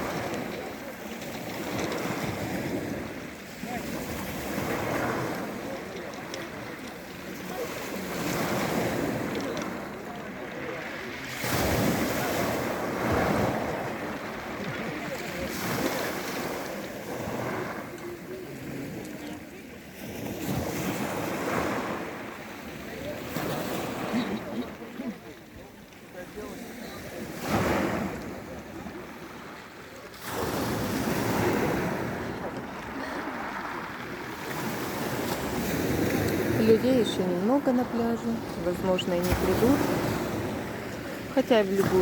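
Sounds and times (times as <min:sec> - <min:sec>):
waves breaking on shore: 0:00.0 - 0:42.0.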